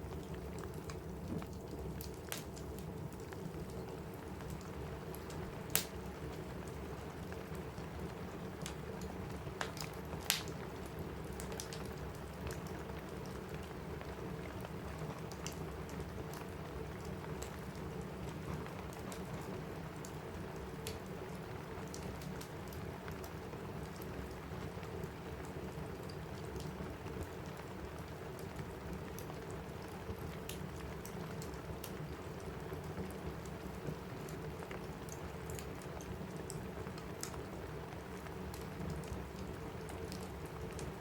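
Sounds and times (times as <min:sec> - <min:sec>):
rain on a roof: 0:00.0 - 0:41.0
wood fire crackling and popping: 0:00.0 - 0:41.0.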